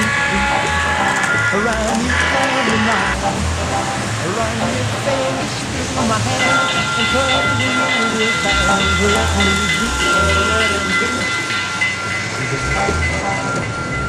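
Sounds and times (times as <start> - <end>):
people talking: 0.0 - 11.5, 12.3 - 13.8
model train whine: 0.0 - 14.0.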